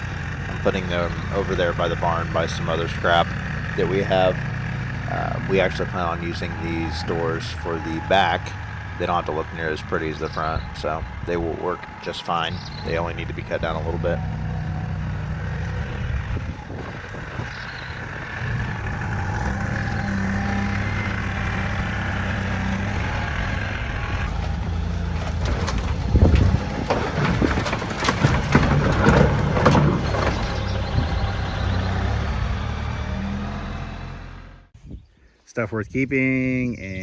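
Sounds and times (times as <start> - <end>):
clattering and banging of doors: 0.0 - 32.6
tractor diesel engine running: 0.0 - 34.8.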